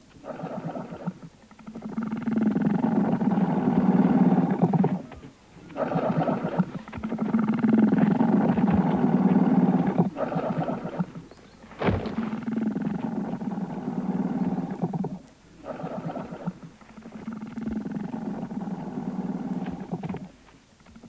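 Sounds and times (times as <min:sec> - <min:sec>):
elephant snoring: 0:00.2 - 0:20.4.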